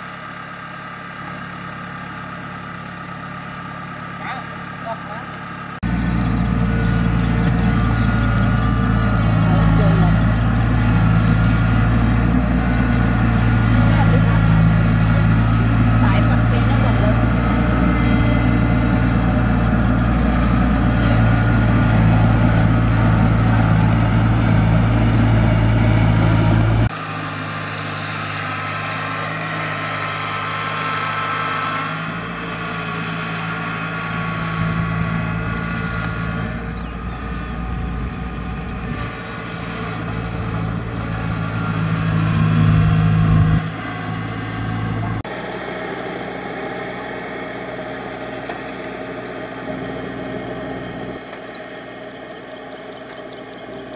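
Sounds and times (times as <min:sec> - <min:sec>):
combine harvesters running: 0:00.0 - 0:53.9.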